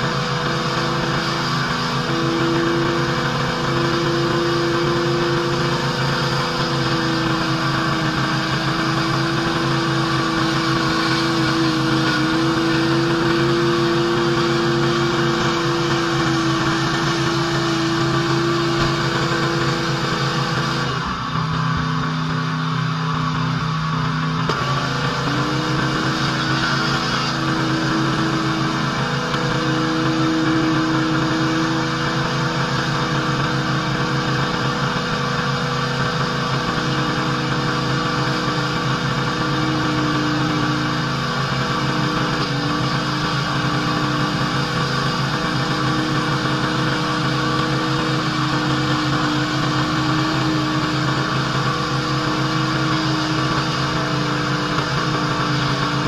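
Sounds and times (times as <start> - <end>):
high-pressure water jet hissing: 0.0 - 22.7, 24.1 - 56.0
pressure washer engine drone: 0.0 - 56.0.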